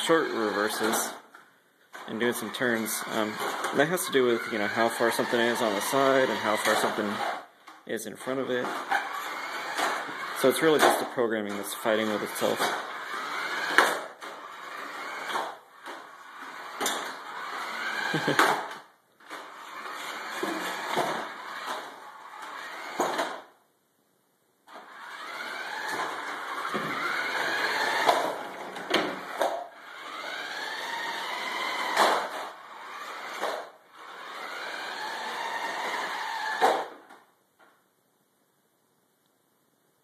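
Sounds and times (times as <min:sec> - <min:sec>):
electric motor and gears whirring: 0:00.0 - 0:01.3, 0:01.9 - 0:23.5, 0:24.7 - 0:37.2.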